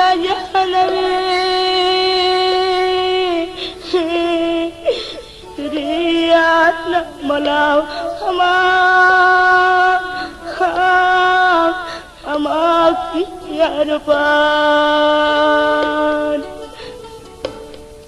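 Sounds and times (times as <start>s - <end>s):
quiet musical accompaniment: 0.0s - 18.0s.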